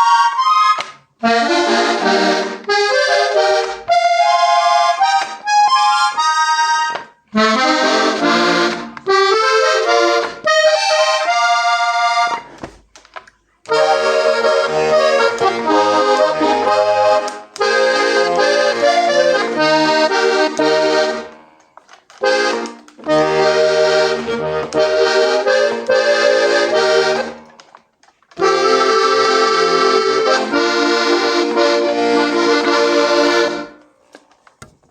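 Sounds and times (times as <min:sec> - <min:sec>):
button accordion playing: 0:00.0 - 0:12.6, 0:13.6 - 0:34.3.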